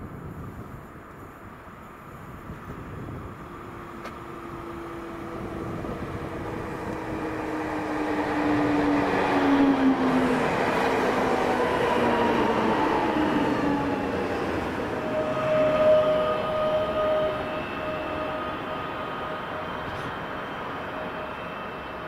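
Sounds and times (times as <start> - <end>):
train rumble: 0.0 - 22.0
train whine falling in pitch: 3.4 - 22.0.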